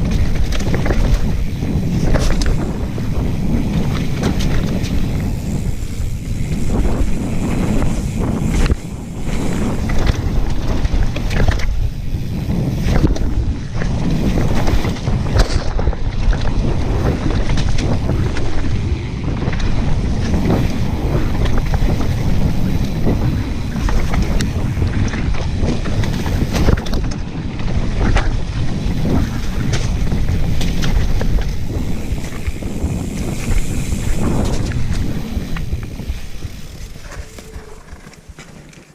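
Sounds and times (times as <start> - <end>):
bike clicks and rattles: 0.0 - 38.9
tyres rumbling on dirt: 0.0 - 38.9
wind buffeting microphone: 0.0 - 38.9.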